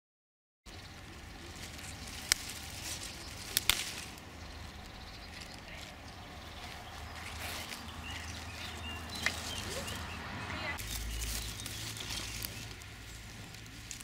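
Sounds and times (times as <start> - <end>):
leaves rustling: 0.7 - 14.0.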